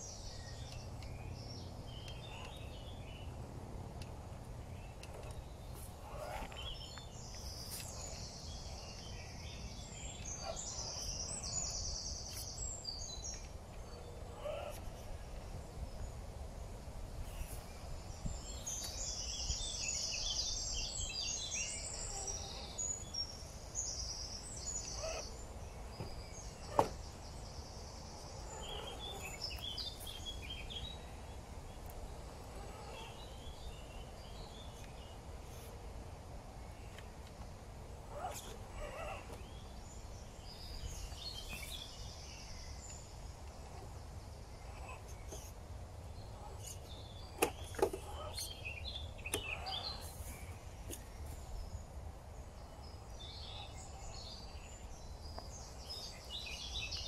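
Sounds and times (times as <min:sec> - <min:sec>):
birds chirping and trilling: 0:00.0 - 0:57.0
low outdoor rumble: 0:00.0 - 0:57.0.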